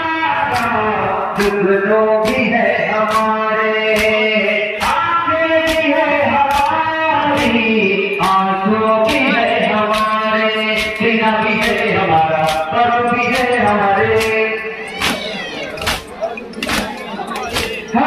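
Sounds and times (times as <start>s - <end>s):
man singing lament over loudspeaker: 0.0s - 15.5s, 17.5s - 18.0s
crowd chest-beating slaps: 0.4s - 1.6s, 2.2s - 18.0s.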